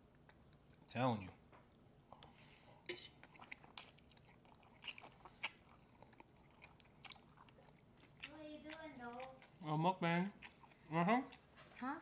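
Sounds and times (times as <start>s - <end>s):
chewing noodles: 2.1s - 12.0s.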